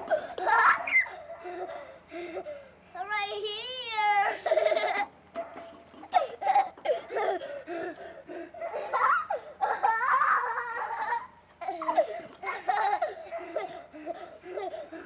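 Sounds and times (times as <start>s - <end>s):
young children laughing: 0.0s - 2.7s, 4.0s - 5.2s, 5.8s - 15.0s.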